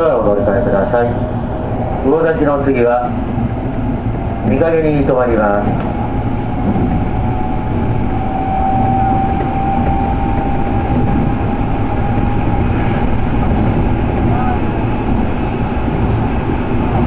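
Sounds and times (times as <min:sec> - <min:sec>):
thin steady whine: 0:00.0 - 0:16.8
train interior low rumble: 0:00.0 - 0:17.0.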